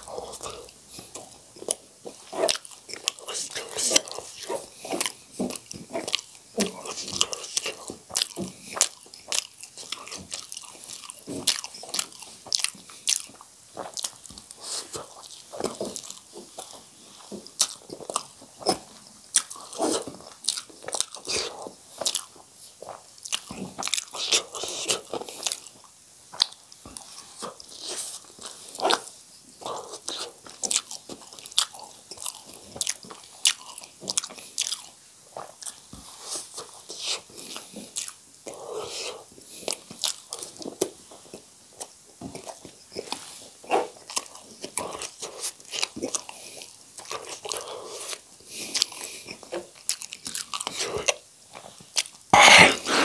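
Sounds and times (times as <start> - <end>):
person chewing noodles: 0.0 - 53.0.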